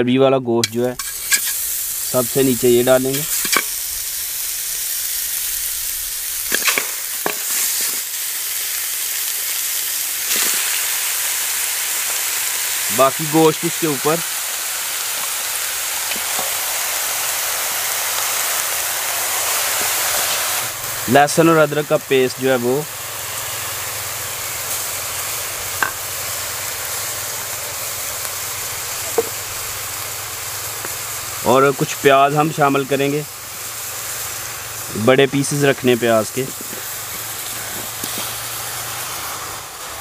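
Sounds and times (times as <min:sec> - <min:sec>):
steady hiss: 0:00.6 - 0:40.0.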